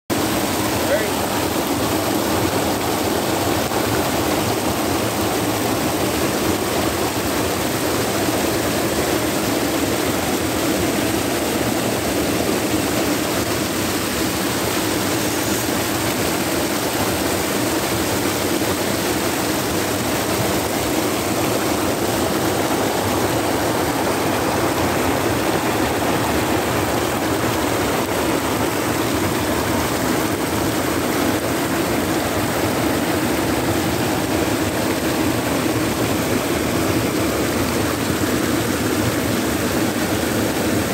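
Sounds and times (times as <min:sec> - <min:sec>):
creek water rushing: 0:00.1 - 0:40.9.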